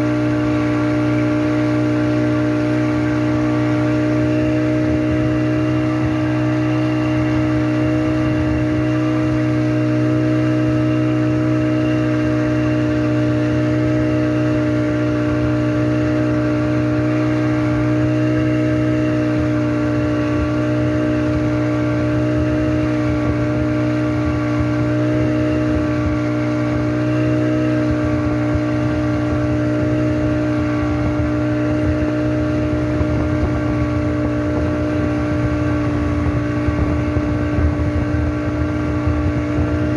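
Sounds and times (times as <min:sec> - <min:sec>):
speedboat engine droning: 0:00.0 - 0:39.9.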